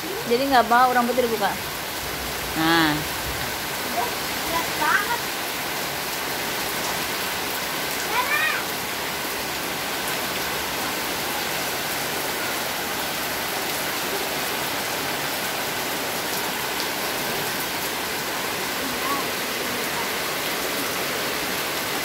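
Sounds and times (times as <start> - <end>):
rain pouring on pavement: 0.0 - 22.0.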